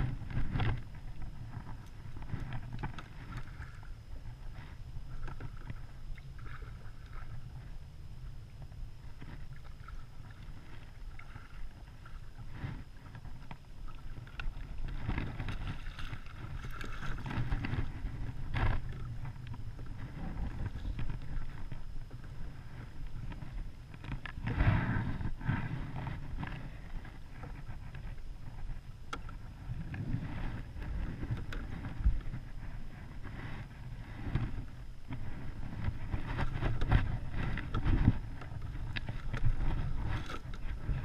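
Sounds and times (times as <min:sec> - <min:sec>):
water splashing and sloshing: 0:00.0 - 0:41.0
wind rumble on microphone: 0:00.0 - 0:41.0.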